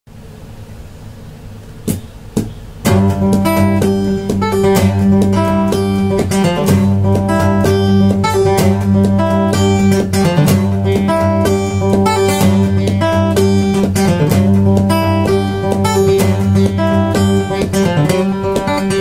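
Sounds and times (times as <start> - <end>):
acoustic guitar riff: 1.8 - 19.0
knocks: 1.8 - 19.0.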